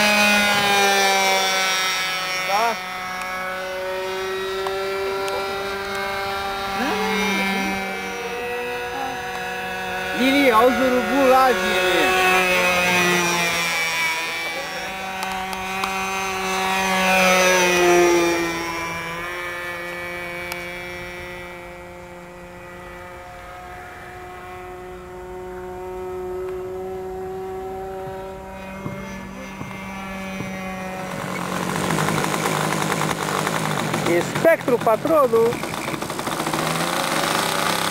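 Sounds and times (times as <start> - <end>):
model airplane motor humming: 0.0 - 37.9.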